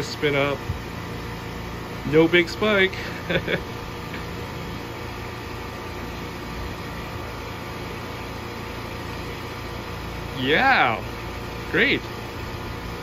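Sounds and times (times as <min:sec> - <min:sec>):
air conditioner condenser running: 0:00.0 - 0:13.0.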